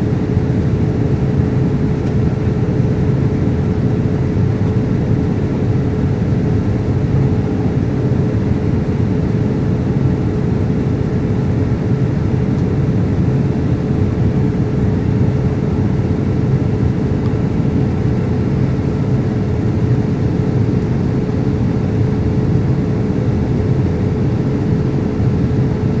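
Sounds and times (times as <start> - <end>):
aircraft cabin rumble: 0.0 - 26.0
constant hum tone: 0.0 - 26.0.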